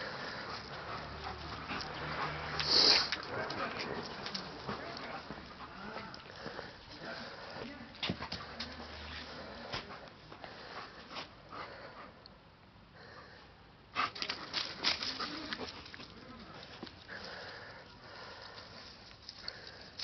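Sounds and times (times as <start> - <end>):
dog sniffing and panting: 0.0 - 13.2, 13.9 - 20.0.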